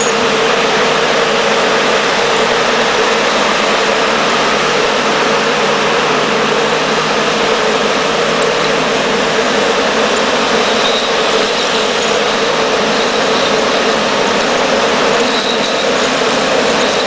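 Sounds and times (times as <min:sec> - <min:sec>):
wood chipper running: 0:00.0 - 0:17.0.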